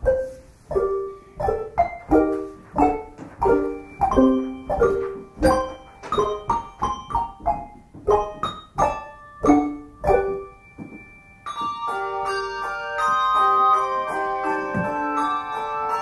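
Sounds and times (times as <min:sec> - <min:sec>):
handbell choir ringing: 0:02.2 - 0:07.4, 0:08.1 - 0:16.0.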